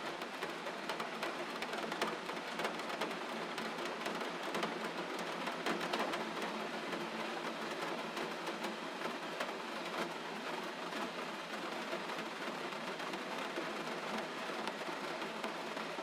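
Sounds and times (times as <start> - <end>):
gentle rainfall: 0.0 - 16.0.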